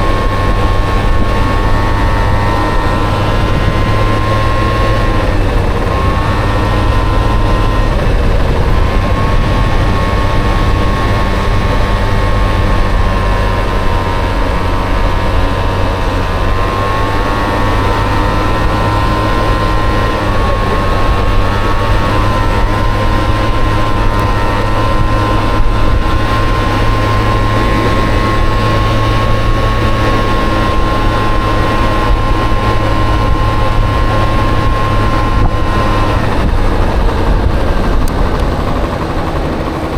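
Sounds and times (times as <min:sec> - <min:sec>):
heavy low rumble: 0:00.0 - 0:39.9
two-stroke scooter engine running: 0:00.0 - 0:39.9.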